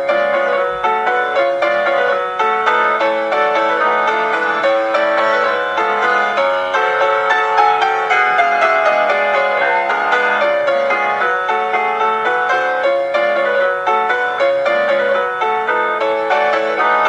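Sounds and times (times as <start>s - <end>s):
solo classical piano: 0.0s - 17.0s.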